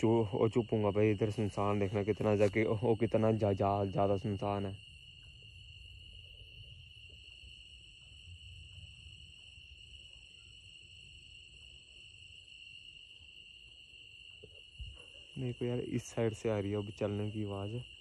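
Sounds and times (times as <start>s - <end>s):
crickets and insects chirring: 0.0s - 18.0s.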